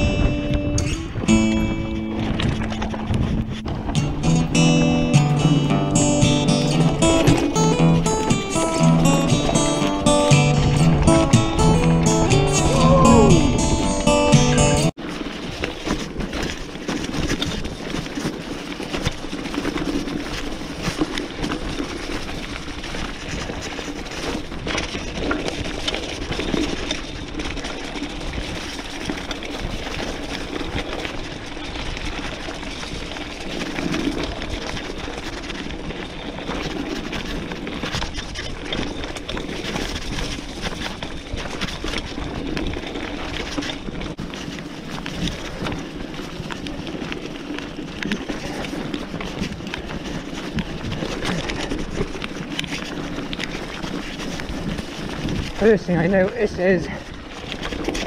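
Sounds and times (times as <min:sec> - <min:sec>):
bike tyre rumble on dirt: 0:00.0 - 0:08.3, 0:15.0 - 0:58.0.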